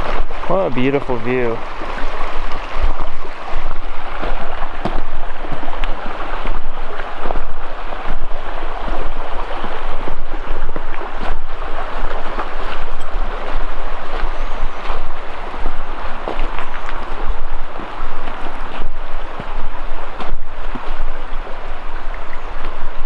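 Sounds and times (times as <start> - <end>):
shallow creek flowing over rocks: 0.0 - 23.0
wind buffeting microphone: 0.0 - 23.0.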